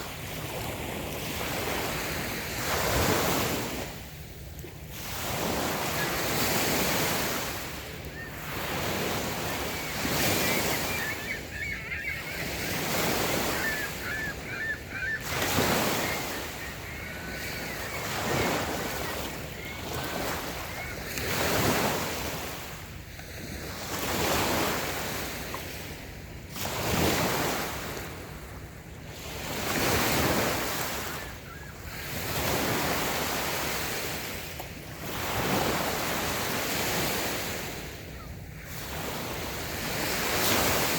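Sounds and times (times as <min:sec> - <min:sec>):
waves washing up a beach: 0:00.0 - 0:40.9.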